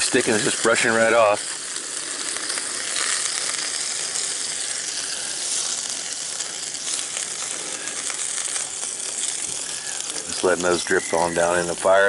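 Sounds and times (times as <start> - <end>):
water sizzling on hot griddle: 0.0 - 12.0.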